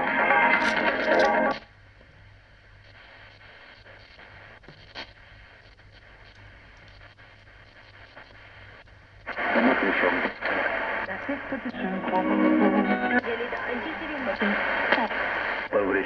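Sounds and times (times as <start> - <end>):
radio static hiss: 0.0 - 16.0
radio broadcast: 3.0 - 16.0.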